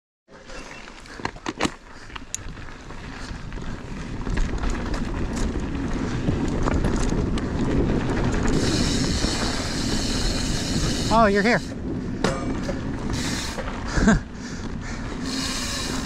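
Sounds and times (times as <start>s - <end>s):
bike tyres on dirt and gravel: 0.3s - 16.0s
bike clicks and rattles: 0.5s - 16.0s
wind on microphone: 1.9s - 16.0s.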